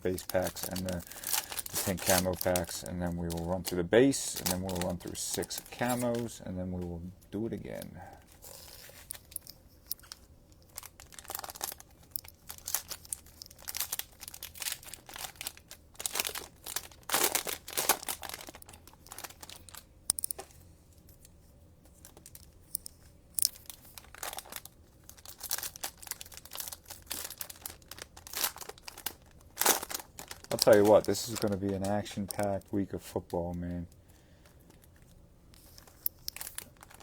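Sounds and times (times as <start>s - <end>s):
cellophane wrappers tearing and crinkling: 0.0s - 6.4s, 7.7s - 20.4s, 23.4s - 33.9s, 34.7s - 37.0s.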